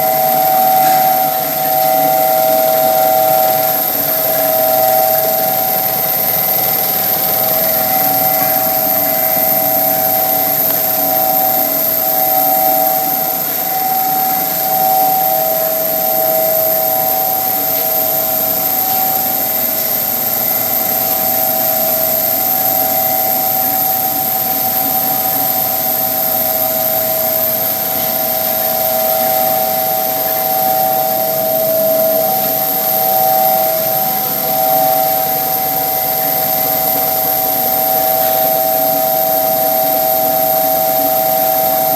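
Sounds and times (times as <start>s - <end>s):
furnace machine whine: 0.0s - 41.9s.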